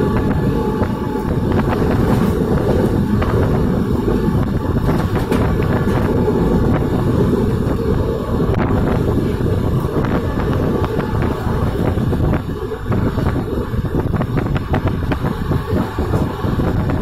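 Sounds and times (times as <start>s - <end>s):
train coach running rumble: 0.0s - 17.0s
wind buffeting microphone: 0.0s - 17.0s.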